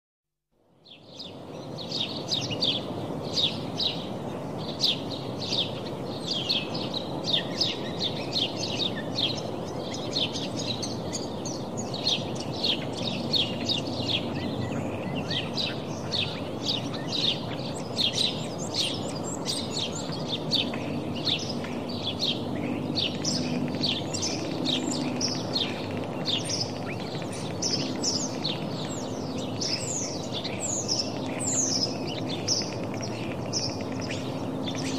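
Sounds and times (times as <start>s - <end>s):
low background noise: 0.6s - 34.9s
small birds chirping: 0.8s - 34.9s.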